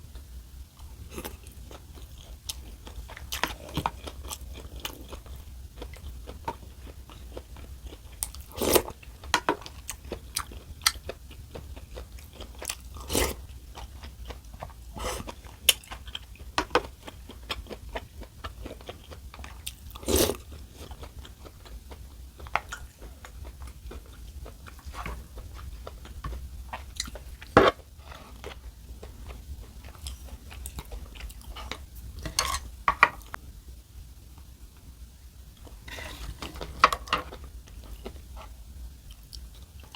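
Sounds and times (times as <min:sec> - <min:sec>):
steady low hum: 0:00.0 - 0:39.9
chewing and crunching: 0:01.1 - 0:33.4.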